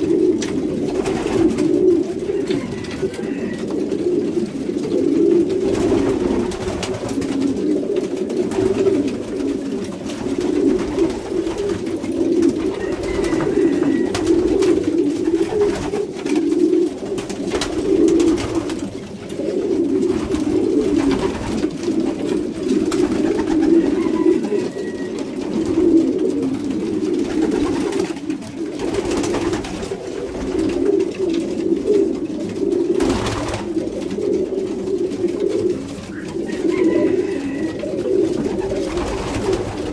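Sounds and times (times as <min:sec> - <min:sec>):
pigeon wings flapping: 0:00.0 - 0:39.9
pigeons cooing: 0:00.0 - 0:39.9.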